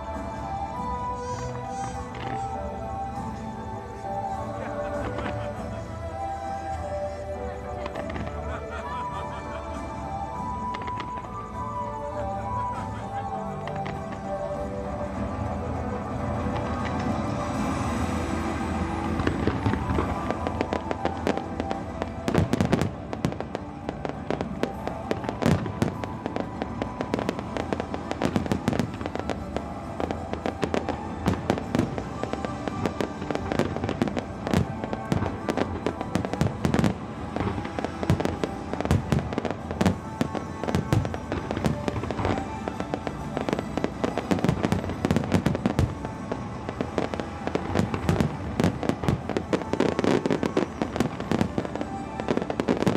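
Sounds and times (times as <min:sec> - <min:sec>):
fireworks bursts and bangs: 0:00.0 - 0:52.9
music playing: 0:00.0 - 0:52.9.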